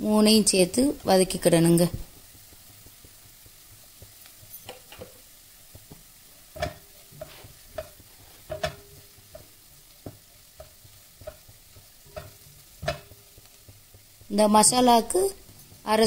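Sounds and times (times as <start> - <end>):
faint oil sizzle: 0.0 - 16.0
spatula scraping and knocking pan: 2.0 - 16.0.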